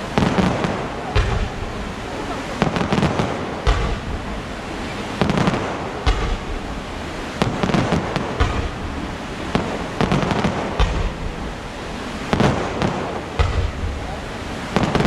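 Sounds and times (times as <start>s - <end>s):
continuous rumble: 0.0s - 15.0s
fireworks bursting bangs: 0.0s - 15.0s.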